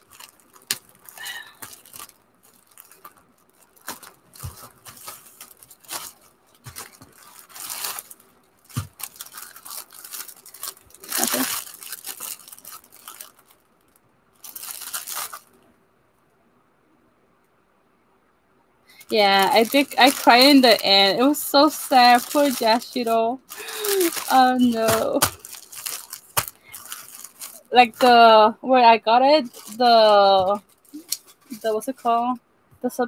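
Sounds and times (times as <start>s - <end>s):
plastic packaging crinkling: 0.0s - 15.6s, 18.9s - 32.3s.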